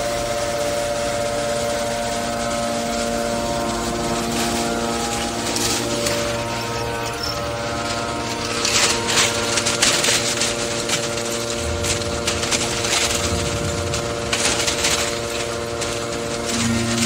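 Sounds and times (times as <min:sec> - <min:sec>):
baler machine hum: 0:00.0 - 0:17.0
scrap metal rattling crashes: 0:01.1 - 0:17.0.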